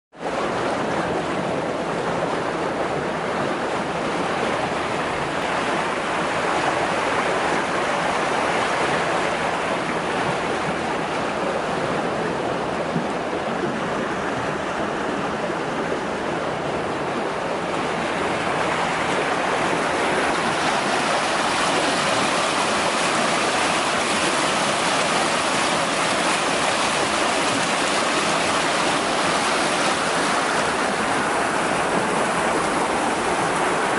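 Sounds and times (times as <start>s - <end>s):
churning wastewater rushing: 0.2s - 33.9s.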